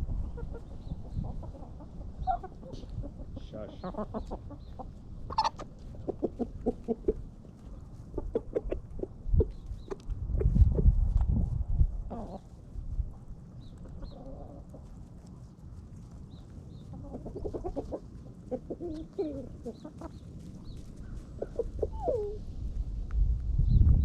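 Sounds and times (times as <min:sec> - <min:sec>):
hens clucking: 0:00.0 - 0:11.0, 0:12.0 - 0:22.4.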